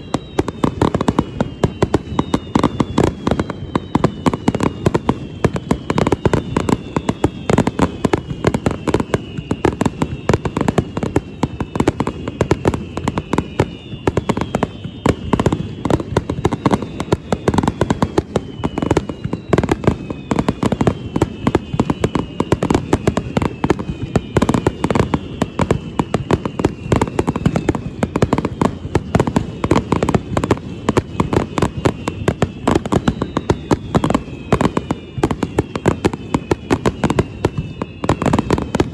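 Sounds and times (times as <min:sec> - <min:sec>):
falling firework whistles: 0:00.0 - 0:38.9
firework bangs and crackles: 0:00.0 - 0:38.9.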